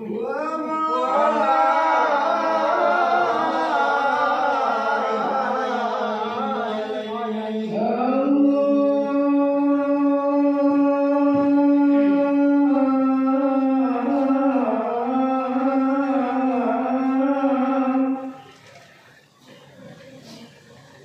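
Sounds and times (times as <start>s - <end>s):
men chanting: 0.0s - 18.4s.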